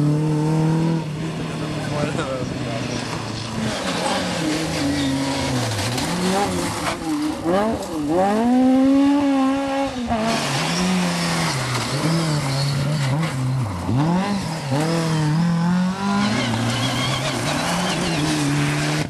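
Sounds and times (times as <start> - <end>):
rally car engines at high revs: 0.0 - 19.0.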